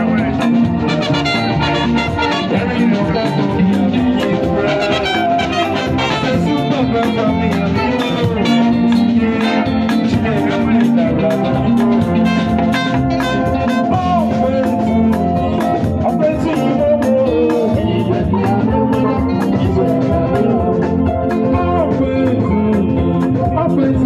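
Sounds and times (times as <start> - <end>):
band music with guitar: 0.0 - 24.0.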